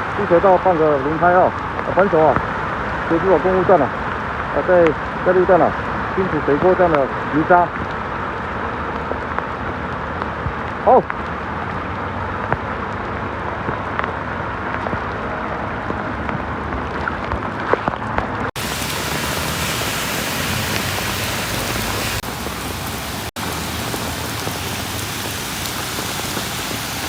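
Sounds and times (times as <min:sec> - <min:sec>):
heavy rain pouring: 0:00.0 - 0:27.0
raindrops splashing: 0:00.0 - 0:27.0.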